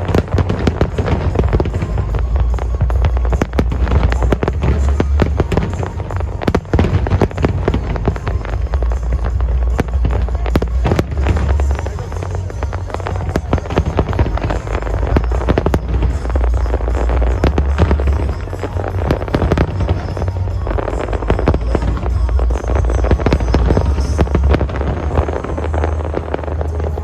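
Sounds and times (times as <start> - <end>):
continuous low rumble: 0.0 - 27.0
fireworks cracking and popping: 0.0 - 27.0.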